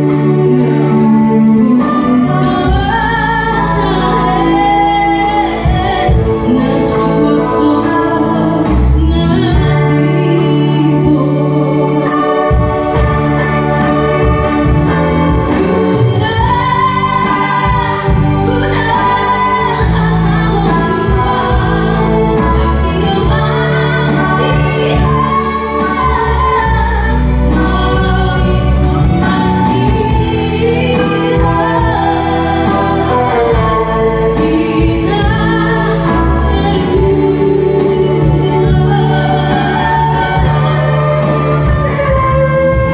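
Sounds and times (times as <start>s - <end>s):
live band with keyboard and guitar: 0.0s - 42.9s
steady bass line: 0.0s - 42.9s
woman singing into a microphone: 0.0s - 42.9s.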